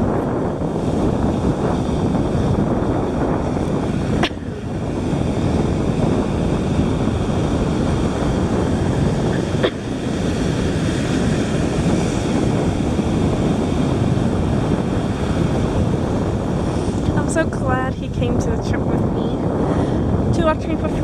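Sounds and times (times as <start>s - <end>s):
ocean surf: 0.0s - 17.8s
wind buffeting microphone: 0.0s - 21.0s.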